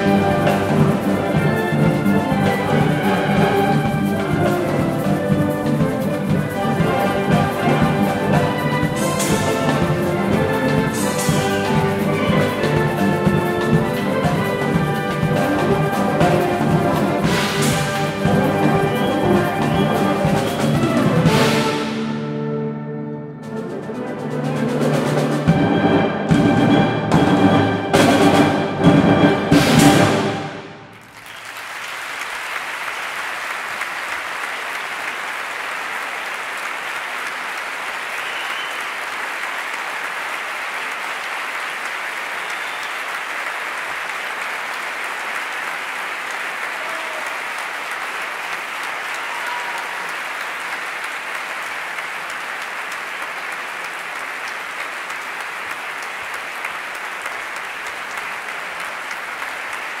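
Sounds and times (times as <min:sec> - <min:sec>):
audience applause: 0:00.0 - 0:22.0, 0:30.0 - 1:00.0.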